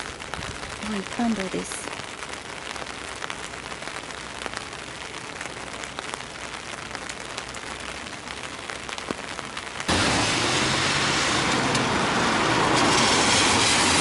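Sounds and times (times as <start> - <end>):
rain on wet street: 0.0 - 14.0.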